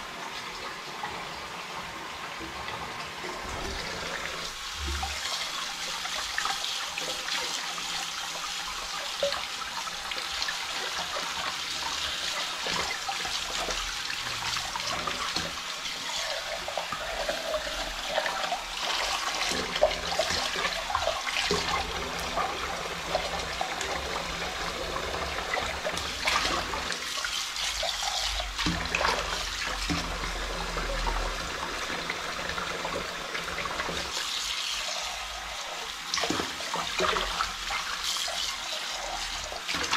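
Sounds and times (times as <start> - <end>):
faucet running into sink: 0.1 - 39.9.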